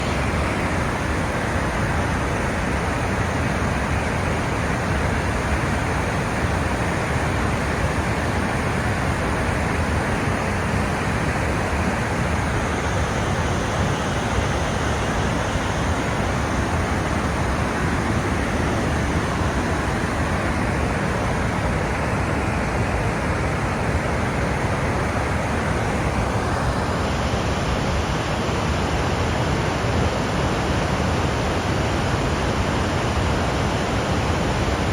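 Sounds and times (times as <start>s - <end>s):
water rushing down spillway: 0.0s - 34.9s.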